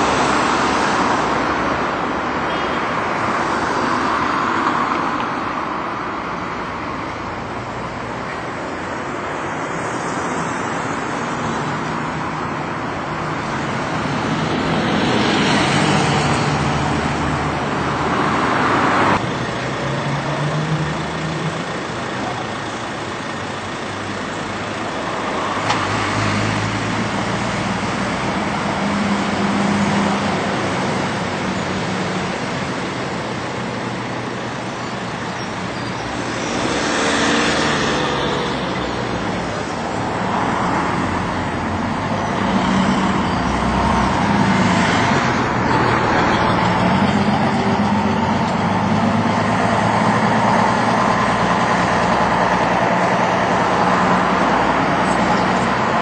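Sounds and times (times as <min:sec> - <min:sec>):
bus diesel engines passing: 0:00.0 - 0:56.0
road traffic: 0:00.0 - 0:56.0.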